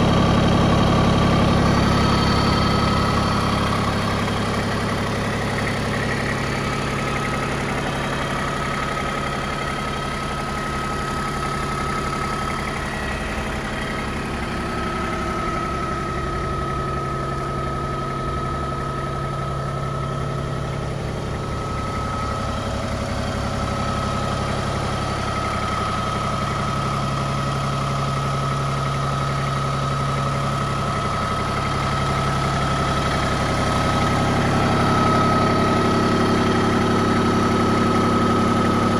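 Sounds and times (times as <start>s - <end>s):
diesel engine idling: 0.0s - 38.9s
thin steady whine: 0.0s - 38.9s.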